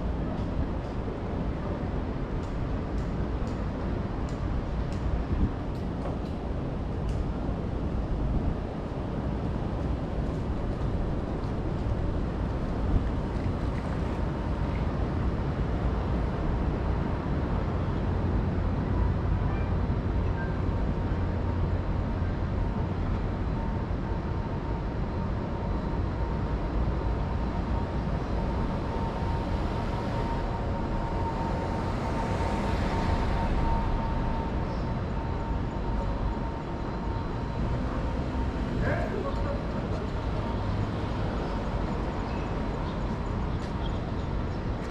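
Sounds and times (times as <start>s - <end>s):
urban low rumble: 0.0s - 44.9s.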